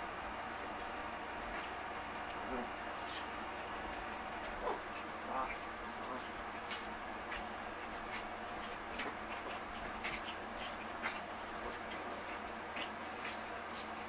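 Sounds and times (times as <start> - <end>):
dog paws scrabbling on fabric: 0.2 - 14.0.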